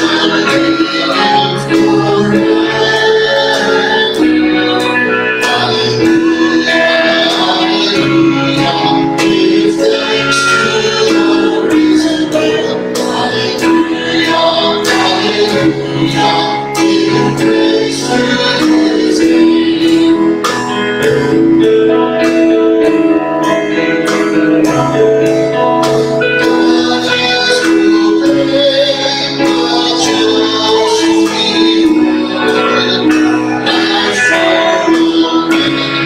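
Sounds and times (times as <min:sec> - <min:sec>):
instrumental accompaniment with beat: 0:00.0 - 0:36.0.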